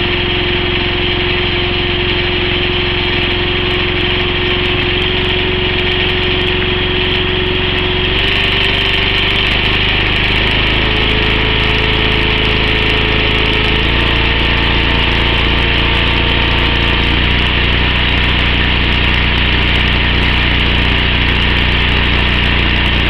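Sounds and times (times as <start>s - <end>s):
small petrol engine running: 0.0s - 23.0s.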